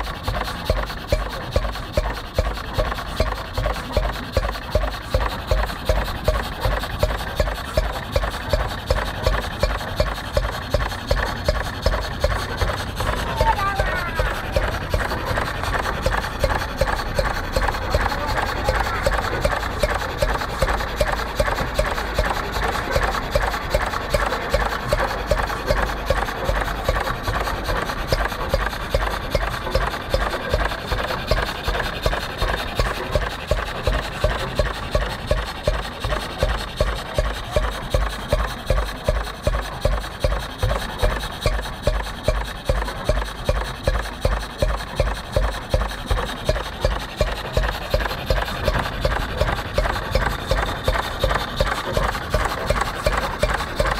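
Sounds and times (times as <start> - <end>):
single-cylinder engine running slowly: 0.0 - 53.9.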